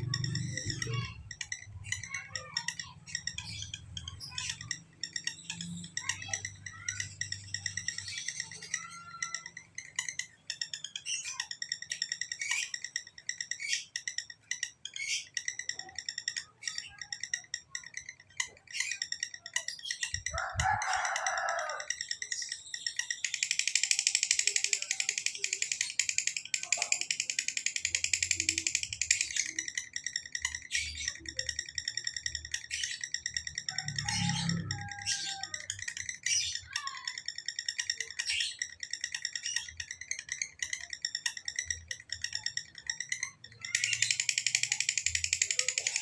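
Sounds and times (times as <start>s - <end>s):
lovebird chirping and trilling: 0.0s - 46.0s.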